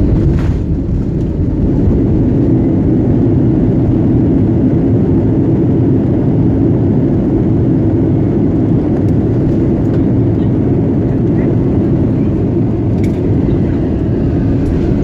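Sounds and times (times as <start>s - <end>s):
jet cabin engine rumble: 0.0s - 15.0s.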